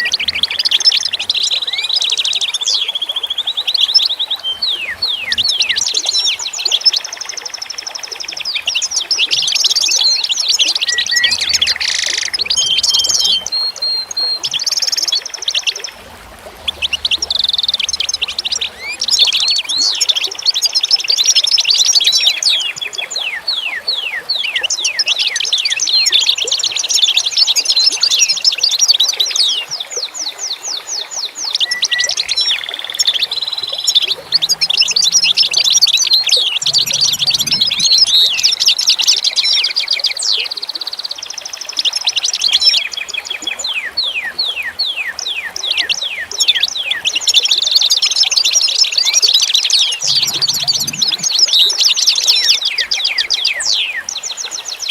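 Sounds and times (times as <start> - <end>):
songbirds chirping and twittering: 0.0 - 54.9.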